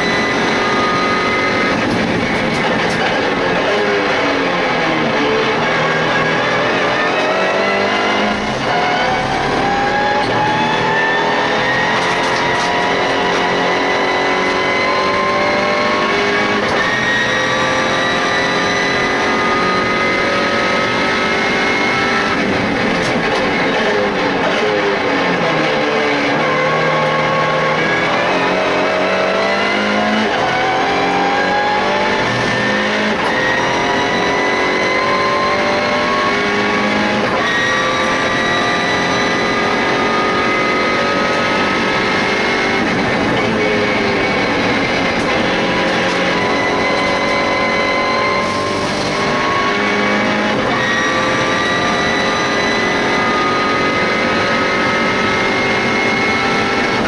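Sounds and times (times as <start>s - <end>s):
race car engine pulling hard: 0.0s - 57.0s.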